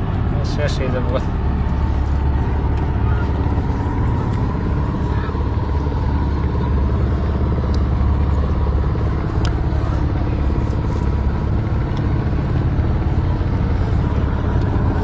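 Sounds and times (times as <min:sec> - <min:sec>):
motor boat engine drone: 0:00.0 - 0:15.0.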